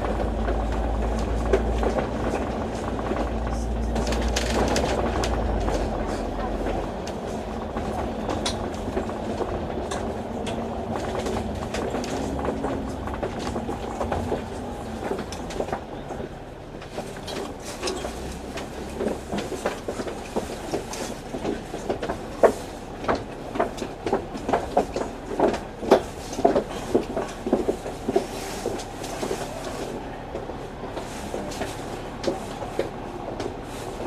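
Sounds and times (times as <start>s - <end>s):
bus body rattling: 0.0s - 34.0s
bus engine and road hum: 0.0s - 34.0s.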